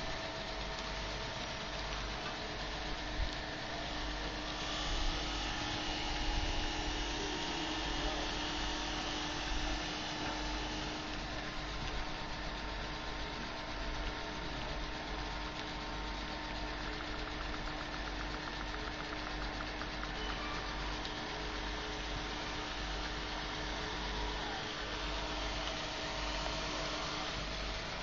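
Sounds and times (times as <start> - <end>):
fast regular ticking: 0.0 - 28.0
furnace machinery drone: 0.0 - 28.0.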